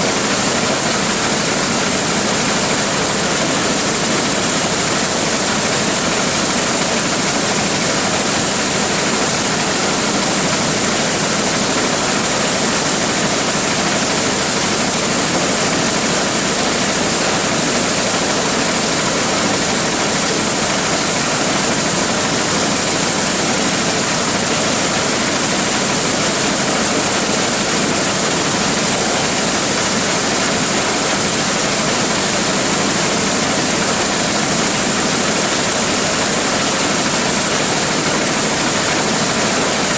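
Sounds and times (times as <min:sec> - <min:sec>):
corn sheller running: 0:00.0 - 0:39.9.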